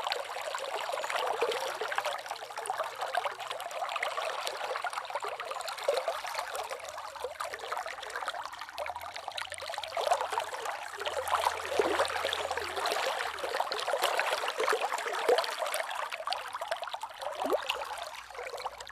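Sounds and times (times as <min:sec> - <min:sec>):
river water flowing and trickling: 0:00.0 - 0:18.9.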